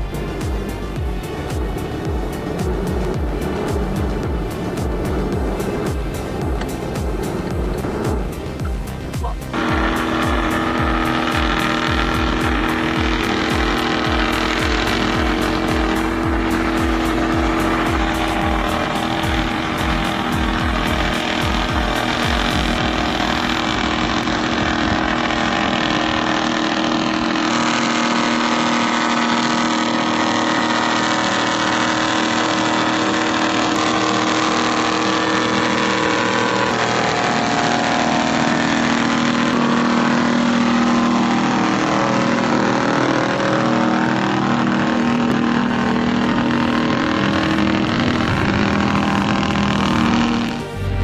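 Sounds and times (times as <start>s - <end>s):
heavy vehicle engine under load: 0.0s - 51.0s.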